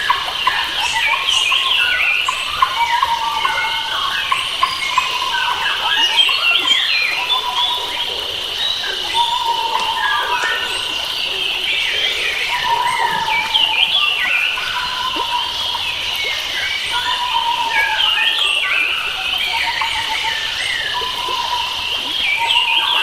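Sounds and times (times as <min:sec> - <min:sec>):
birds chirping and warbling: 0:00.0 - 0:23.0.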